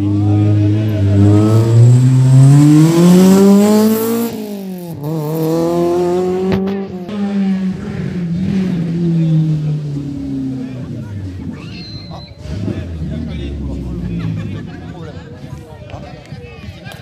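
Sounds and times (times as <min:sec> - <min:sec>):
rally car engine accelerating: 0:00.0 - 0:15.2.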